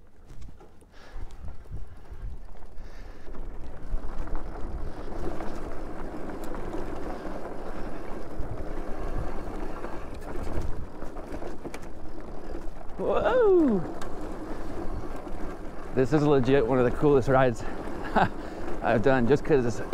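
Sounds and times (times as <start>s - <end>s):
bike knocking and rattling: 0.0s - 19.9s
bike tyres on dirt: 0.0s - 19.9s.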